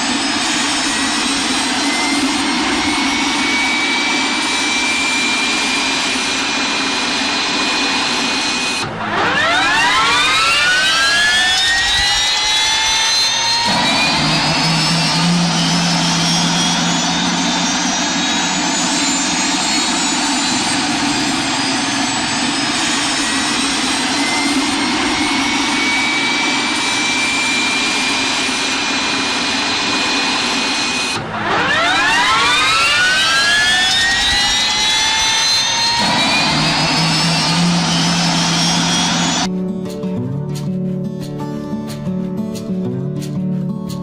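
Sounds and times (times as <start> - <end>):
jet engine whine and roar: 0.0 - 39.5
low hum: 1.8 - 39.5.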